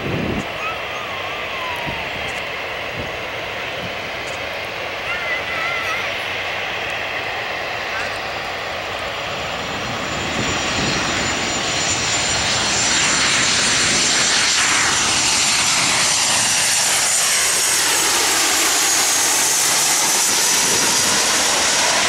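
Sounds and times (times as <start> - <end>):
jet airliner roar: 0.0 - 22.0.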